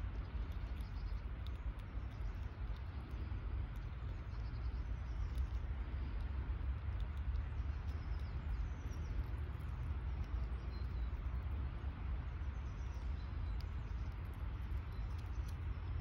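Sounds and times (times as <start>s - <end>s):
low outdoor rumble: 0.0s - 16.0s
faint bird chirps: 0.1s - 6.4s, 7.0s - 11.7s, 12.3s - 16.0s.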